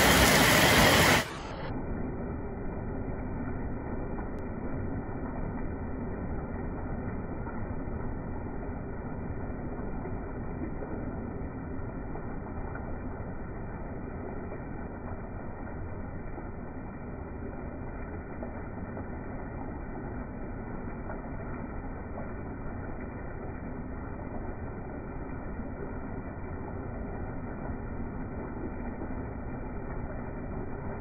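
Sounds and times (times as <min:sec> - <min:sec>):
heavy rain: 0:00.0 - 0:31.0
water streaming onto concrete: 0:00.0 - 0:31.0.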